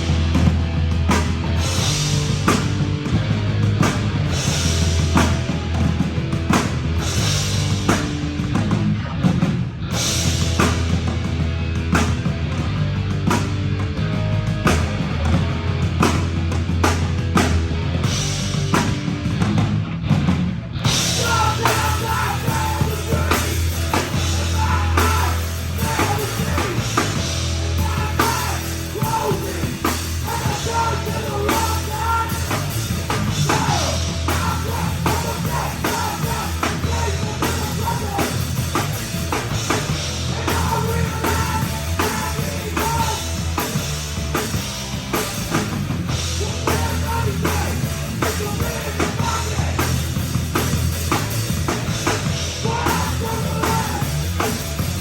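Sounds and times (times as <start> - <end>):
fast drum kit: 0.0 - 55.0
heavy rock band playing: 0.0 - 55.0.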